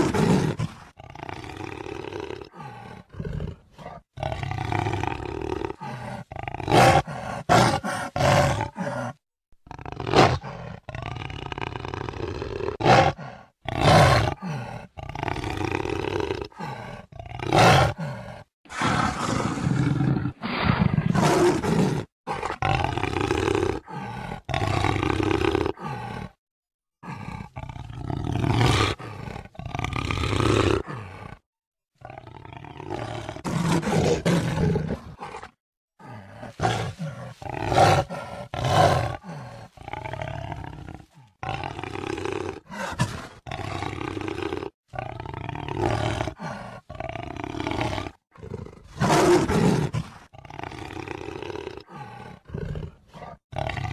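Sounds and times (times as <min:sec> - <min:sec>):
jaguar roaring: 0:00.0 - 0:09.2, 0:09.8 - 0:26.4, 0:27.0 - 0:31.4, 0:32.0 - 0:53.9.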